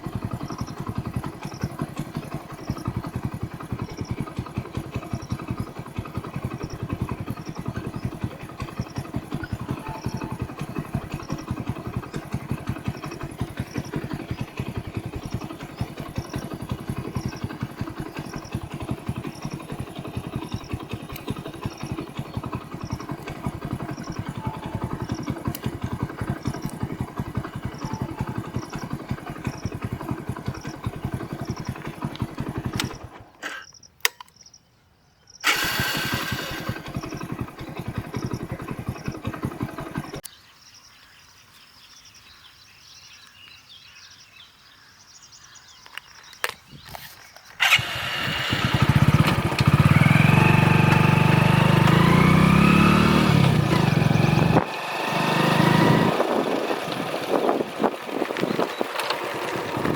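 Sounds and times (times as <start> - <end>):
engine running with pulsing beat: 0.0 - 33.4, 35.5 - 40.3, 47.6 - 59.9.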